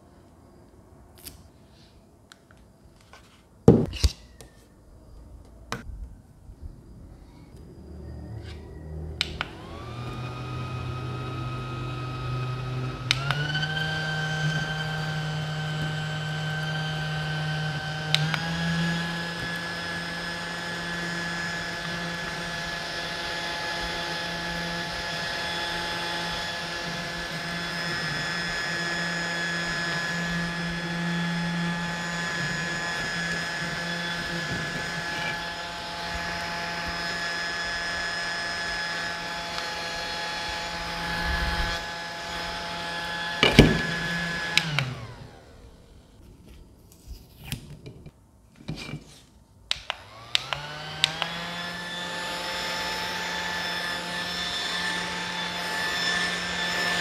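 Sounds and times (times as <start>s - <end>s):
mini fan motor whining: 7.5s - 46.2s, 49.8s - 57.0s.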